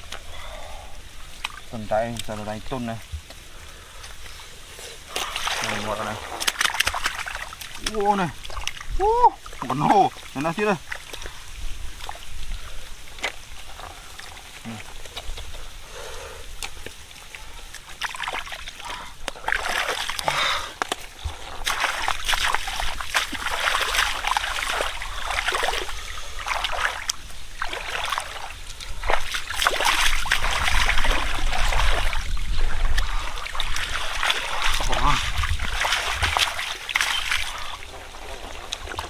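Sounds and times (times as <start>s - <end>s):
splashing in shallow water: 5.0s - 15.7s, 16.6s - 39.0s.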